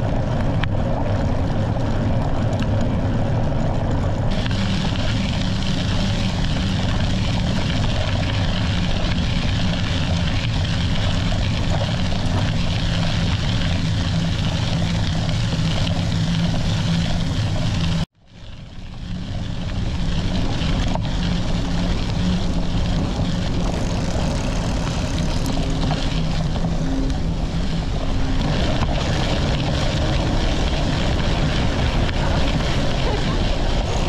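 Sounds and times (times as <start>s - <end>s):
bicycle tyre rolling on dirt: 0.0s - 34.0s
wind rushing over microphone: 0.0s - 34.0s.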